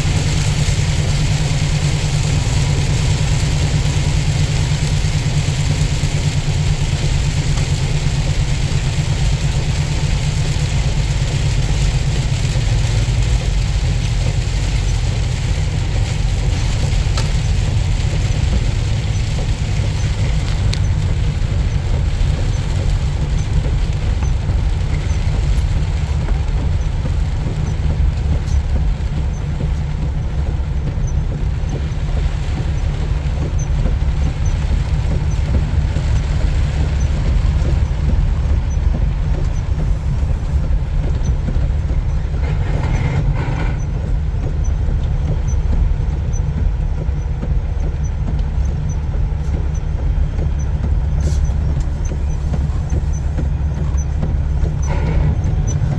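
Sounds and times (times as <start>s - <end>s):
truck engine and road rumble: 0.0s - 55.9s.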